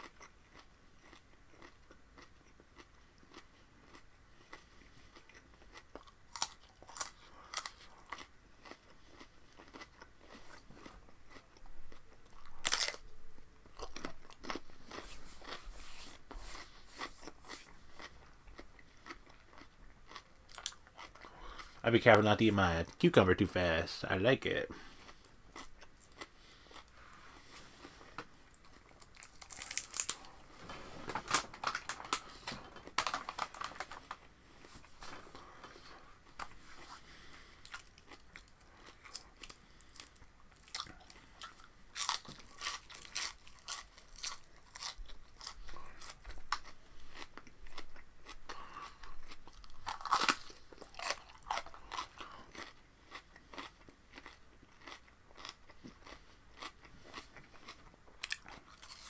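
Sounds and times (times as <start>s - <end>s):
person crunching cucumber: 0.0s - 22.8s, 24.4s - 59.0s.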